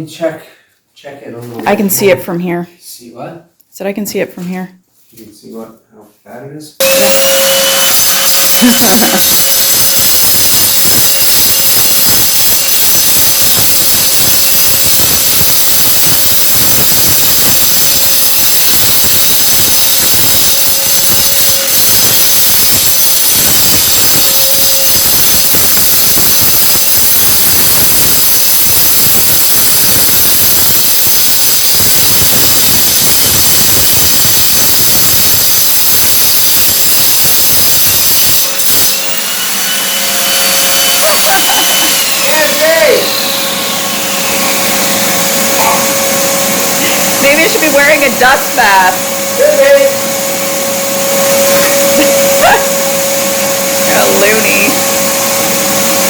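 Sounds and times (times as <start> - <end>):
angle grinder cutting tile: 6.8 - 56.0.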